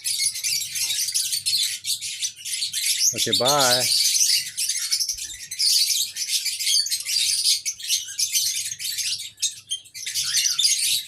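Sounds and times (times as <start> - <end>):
birds chirping and tweeting: 0.0 - 11.0.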